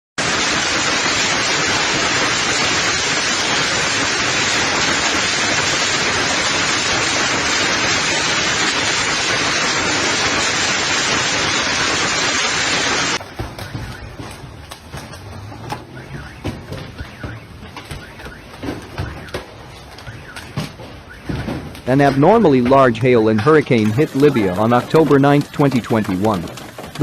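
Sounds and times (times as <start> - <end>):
rain and hail pelting down: 0.2 - 14.0, 18.0 - 27.0.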